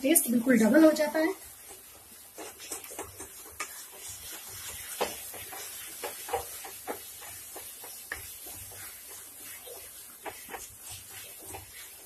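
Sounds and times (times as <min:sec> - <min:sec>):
frying hiss: 0:00.0 - 0:12.0
wooden spatula scraping pan: 0:00.0 - 0:12.0.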